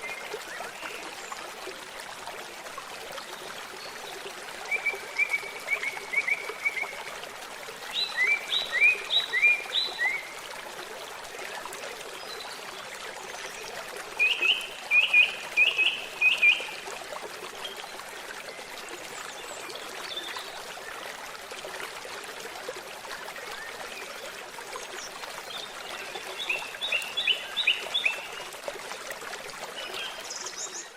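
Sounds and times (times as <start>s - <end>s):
stream babbling: 0.0s - 30.9s.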